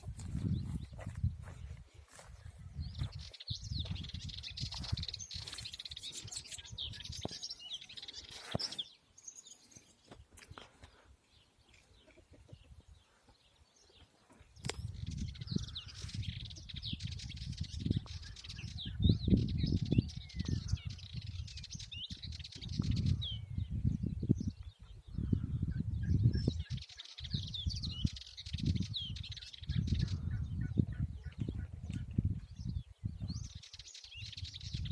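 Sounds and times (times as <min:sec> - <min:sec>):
finches twittering and chirping: 0:00.0 - 0:10.6, 0:11.3 - 0:34.9.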